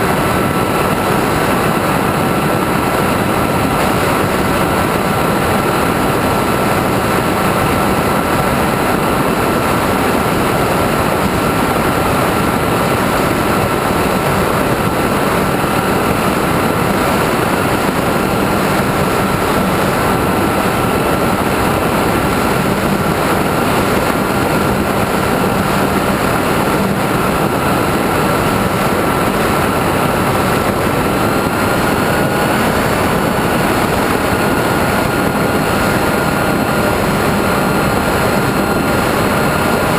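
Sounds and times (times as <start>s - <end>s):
wind rush and propeller noise: 0.0s - 39.9s.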